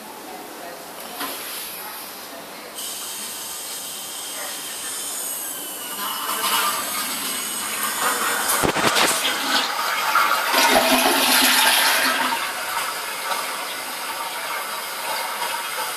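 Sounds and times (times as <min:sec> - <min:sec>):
toilet flushing: 0:02.8 - 0:15.9.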